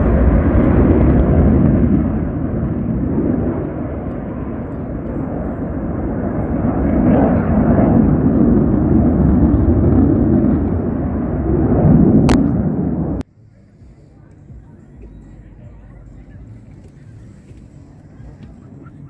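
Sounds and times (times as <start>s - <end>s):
jet aircraft roaring overhead: 0.0s - 19.0s.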